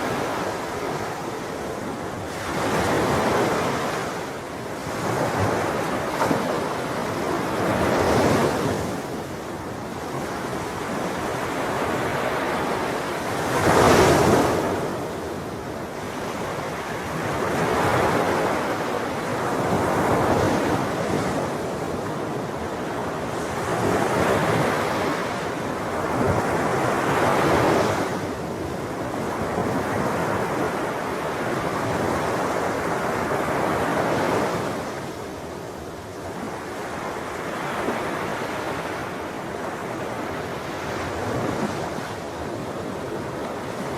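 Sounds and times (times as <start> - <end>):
ocean waves breaking: 0.0 - 43.9.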